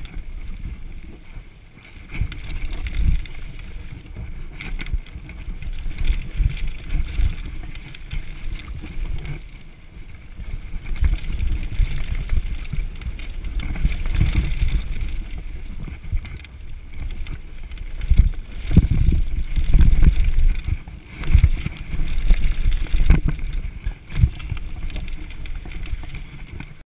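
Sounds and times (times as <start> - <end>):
bike rattling and knocking: 0.0 - 26.8
wind buffeting microphone: 0.0 - 26.8.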